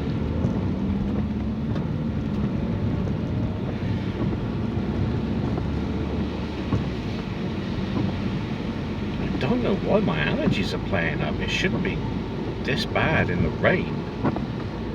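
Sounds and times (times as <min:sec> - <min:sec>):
car engine hum: 0:00.0 - 0:14.9
tyre noise on wet road: 0:00.0 - 0:14.9.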